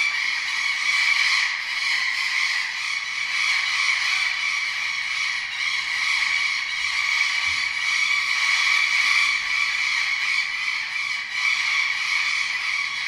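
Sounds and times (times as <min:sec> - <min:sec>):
tropical birds squawking: 0:00.0 - 0:13.0.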